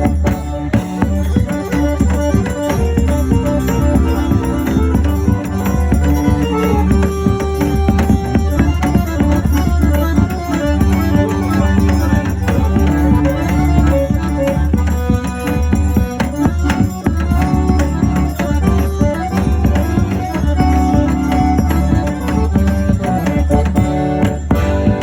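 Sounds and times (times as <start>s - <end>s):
instrumental folk dance music: 0.0s - 25.0s.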